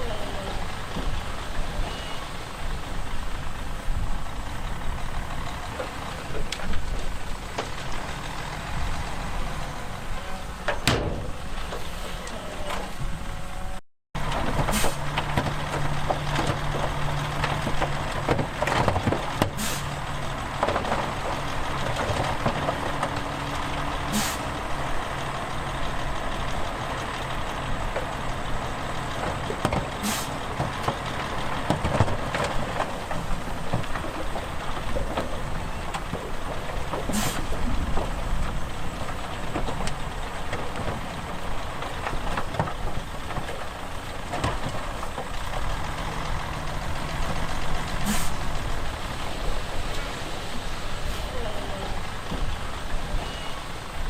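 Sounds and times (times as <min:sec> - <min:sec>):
heavy diesel engines working: 0:00.0 - 0:54.0.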